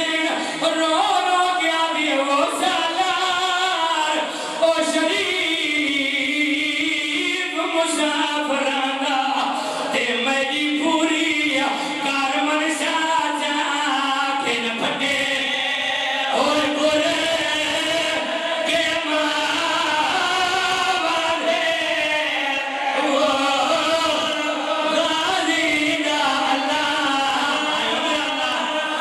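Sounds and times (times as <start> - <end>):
man leading chant: 0.0 - 29.0
men chanting in unison: 0.0 - 29.0.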